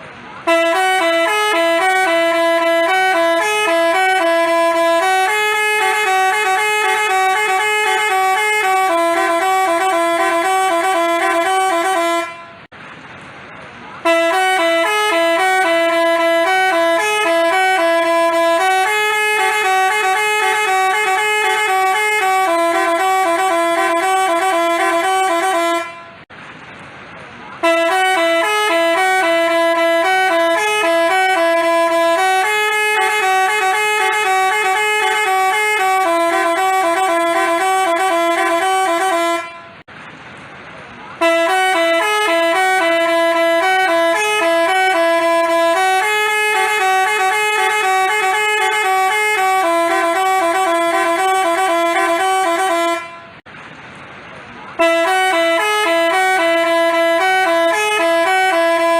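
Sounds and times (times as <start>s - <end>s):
multi-tone musical bus horn: 0.0s - 12.8s, 14.0s - 26.3s, 27.6s - 39.9s, 41.2s - 53.5s, 54.7s - 58.9s.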